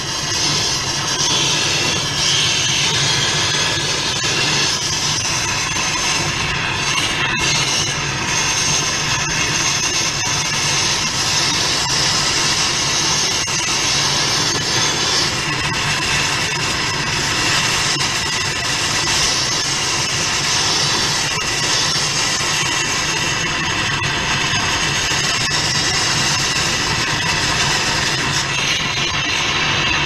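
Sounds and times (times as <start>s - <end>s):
gas torch flame hissing: 0.0s - 30.0s.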